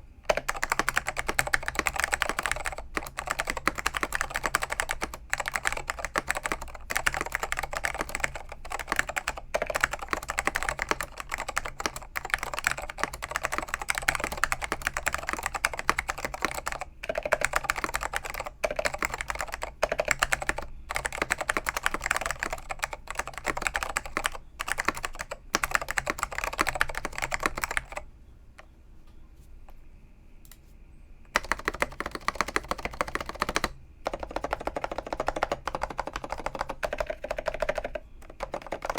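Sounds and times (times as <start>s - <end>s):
fast typing on keyboard: 0.3s - 28.0s, 31.3s - 38.9s.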